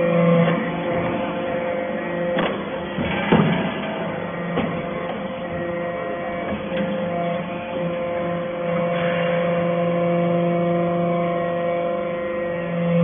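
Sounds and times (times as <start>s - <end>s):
hydraulic press motor hum: 0.0s - 13.0s.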